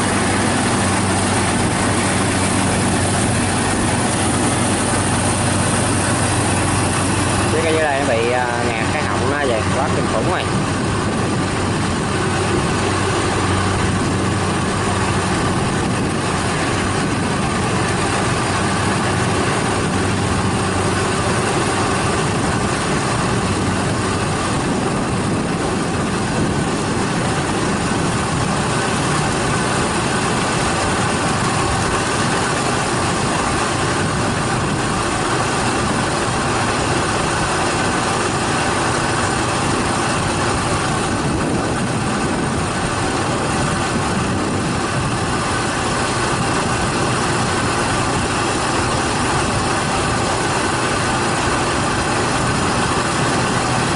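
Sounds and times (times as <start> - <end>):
combine harvesters droning: 0.0 - 53.9.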